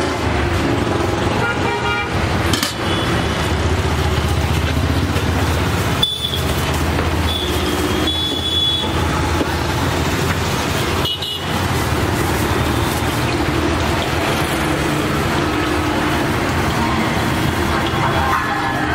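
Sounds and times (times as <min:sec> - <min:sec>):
street traffic noise: 0:00.0 - 0:18.9.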